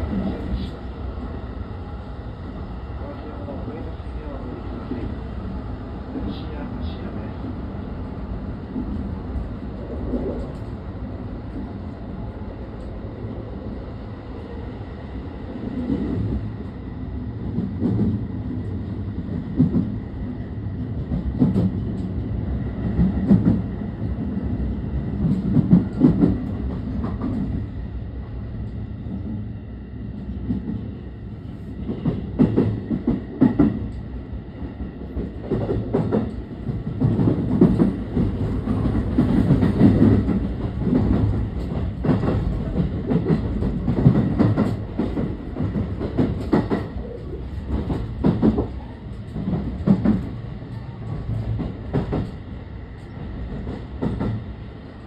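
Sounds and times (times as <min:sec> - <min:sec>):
train wheels rumbling on rails: 0:00.0 - 0:55.0
clickety-clack of rail joints: 0:06.1 - 0:13.0, 0:15.6 - 0:27.9, 0:30.1 - 0:55.0.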